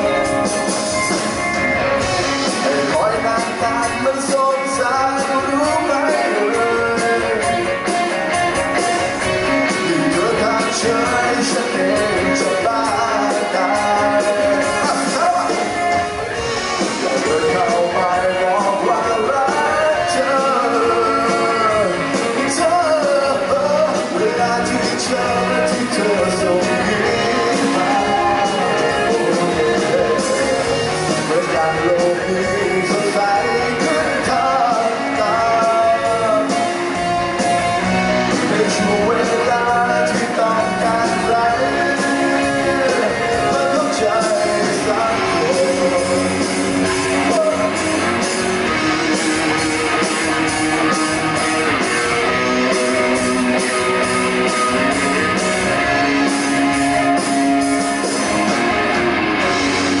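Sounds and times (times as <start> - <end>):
electric bass line: 0.0 - 60.0
electric guitar: 0.0 - 60.0.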